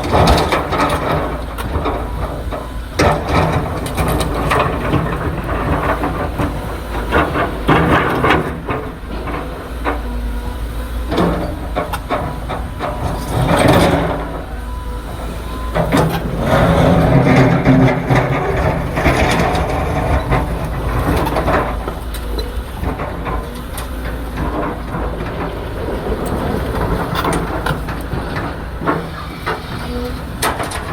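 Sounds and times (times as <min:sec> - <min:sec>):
excavator engine rumbling: 0:00.0 - 0:30.9
metallic clanks and knocks: 0:00.0 - 0:30.9.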